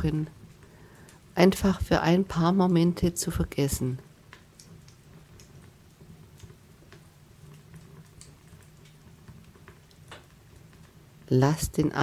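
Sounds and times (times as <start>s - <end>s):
low steady hum: 0.0s - 12.0s
wood fire crackling: 0.0s - 12.0s.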